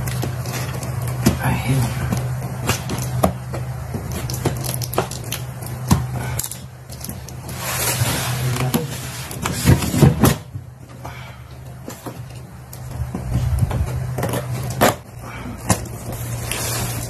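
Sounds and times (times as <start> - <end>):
cardboard scraping and rustling: 0.0 - 6.3, 6.9 - 11.0, 11.7 - 17.0
low hum: 0.0 - 17.0.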